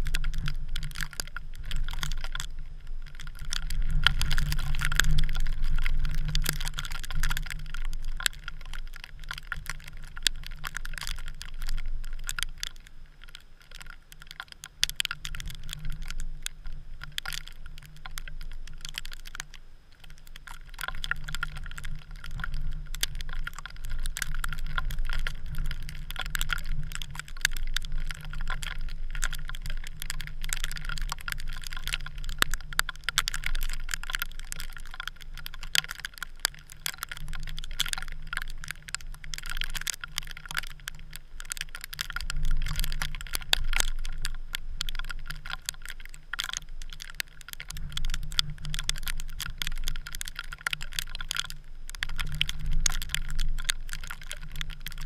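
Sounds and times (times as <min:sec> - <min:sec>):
ticking and clicking: 0:00.0 - 0:55.0.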